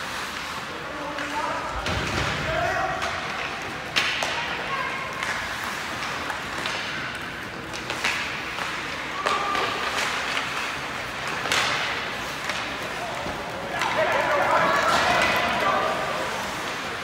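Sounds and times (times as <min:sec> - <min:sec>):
skates scraping ice: 0:00.0 - 0:17.0
sticks and puck clacking: 0:00.0 - 0:17.0.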